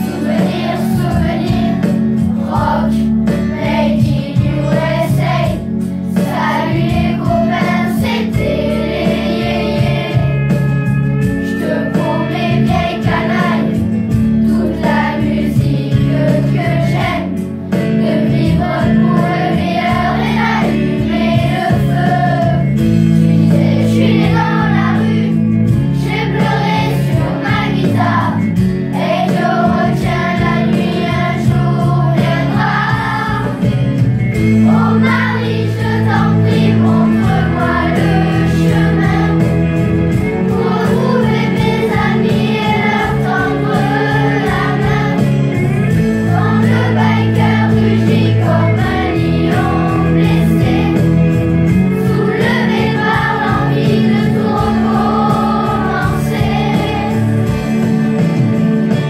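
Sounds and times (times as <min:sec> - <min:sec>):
children's choir singing: 0:00.0 - 0:10.5, 0:11.4 - 0:57.9
instrumental accompaniment with beat: 0:00.0 - 0:59.0.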